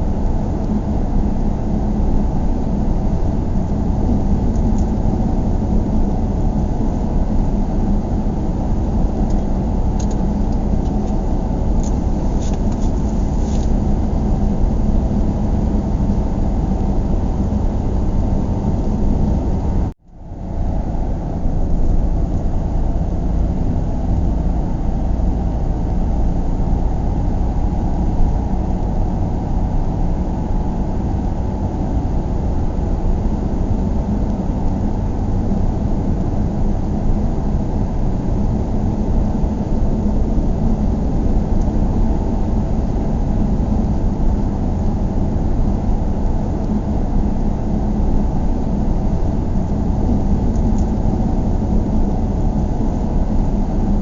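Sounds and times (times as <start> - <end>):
car engine rumble: 0.0 - 54.0
road noise inside a car: 0.0 - 54.0.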